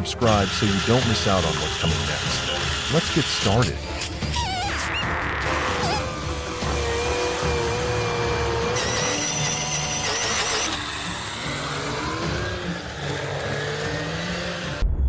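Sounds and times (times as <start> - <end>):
heavy machinery engines running: 0.0 - 4.4, 5.5 - 14.8.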